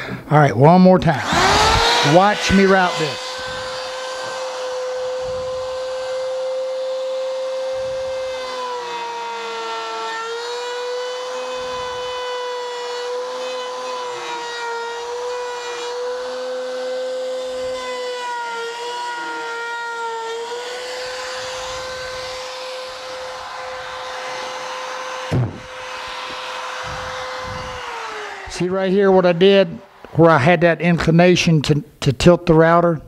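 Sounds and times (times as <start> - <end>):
trim router whining: 0.7 - 31.7.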